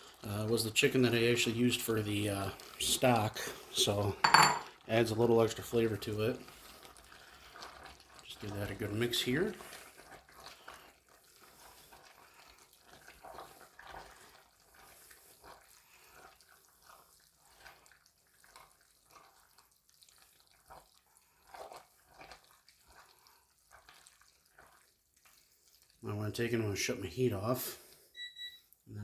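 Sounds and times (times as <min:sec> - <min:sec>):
spoon stirring thick noodles: 0:00.1 - 0:26.1.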